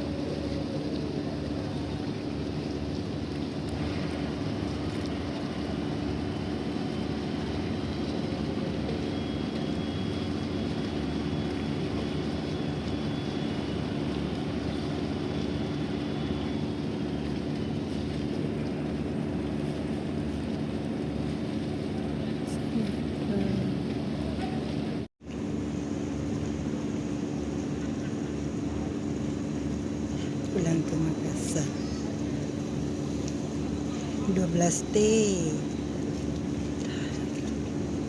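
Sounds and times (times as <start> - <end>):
ship engine droning: 0.0 - 38.0.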